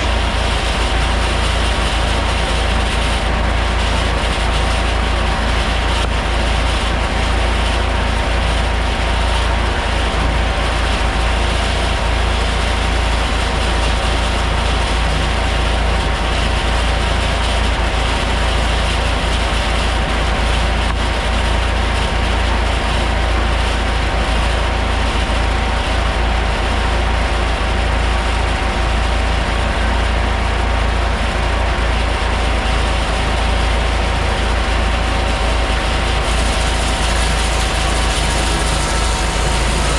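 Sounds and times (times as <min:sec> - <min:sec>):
tractor driving sawmill humming: 0:00.0 - 0:39.9.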